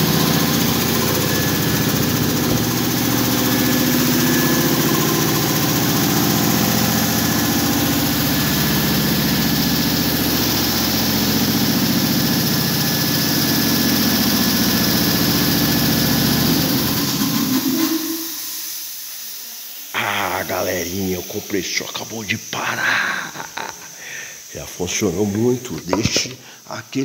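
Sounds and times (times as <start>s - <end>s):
air compressor running: 0.0s - 27.0s.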